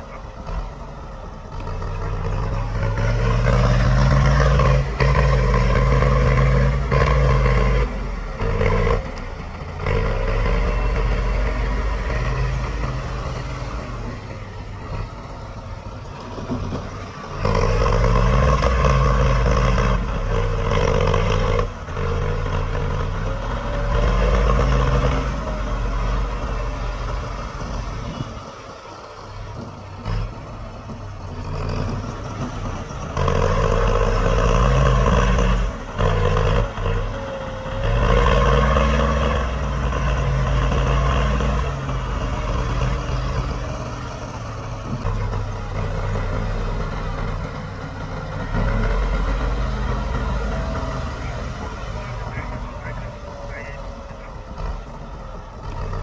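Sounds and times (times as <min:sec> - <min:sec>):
heavy diesel machinery revving: 0:00.0 - 0:56.0.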